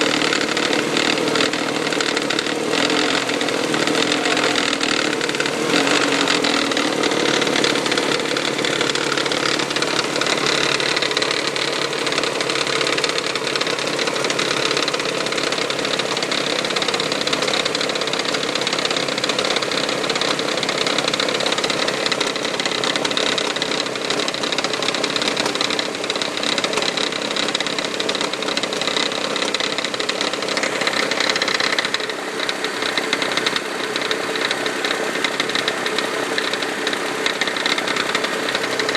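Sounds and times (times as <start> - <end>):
car engine running: 0.0 - 38.9
fast engine knocking: 0.0 - 38.9.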